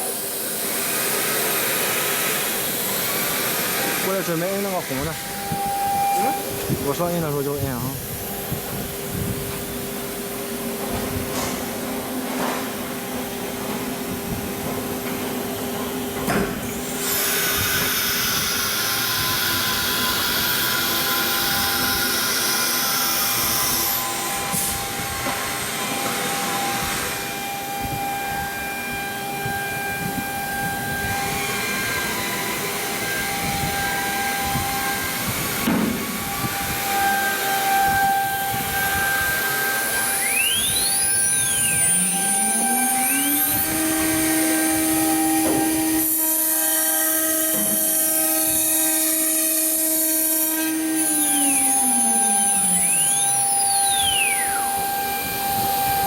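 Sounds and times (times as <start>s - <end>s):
loud air hiss: 0.0s - 11.9s, 16.4s - 56.0s
cnc router spindle whine: 0.0s - 56.0s.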